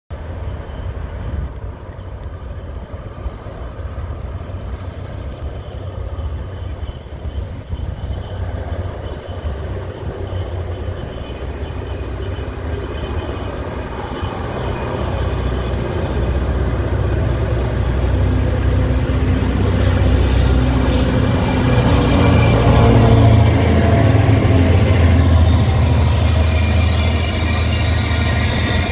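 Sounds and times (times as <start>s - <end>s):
diesel locomotive engine rumble: 0.1s - 28.9s.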